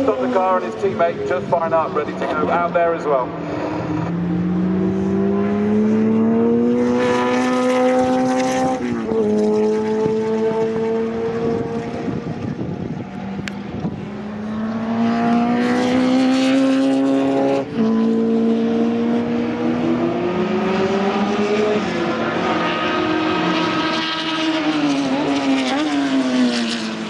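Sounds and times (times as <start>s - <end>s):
racing car engine at full throttle: 0.0s - 27.0s.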